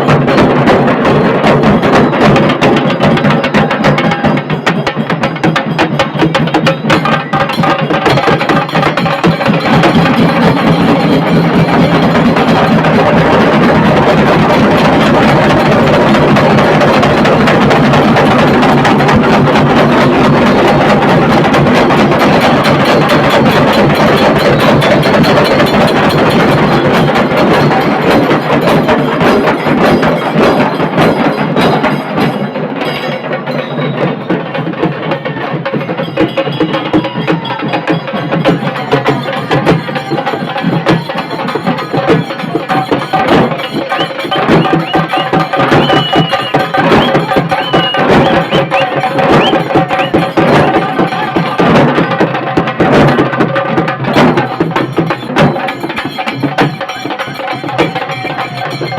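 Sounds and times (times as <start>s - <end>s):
drum band playing: 0.0s - 58.9s.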